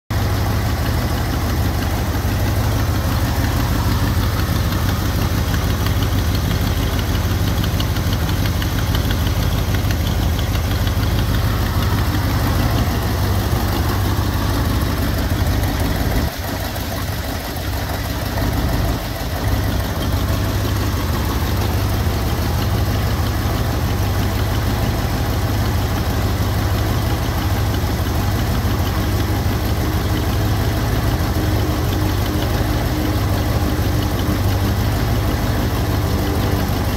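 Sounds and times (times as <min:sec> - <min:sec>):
car engine idling: 0:00.1 - 0:36.9.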